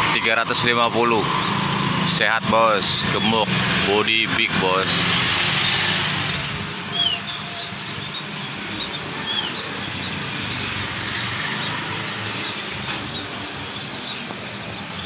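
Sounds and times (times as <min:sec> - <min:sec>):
bird market background hum: 0:00.0 - 0:15.0
songbirds chirping: 0:00.0 - 0:15.0.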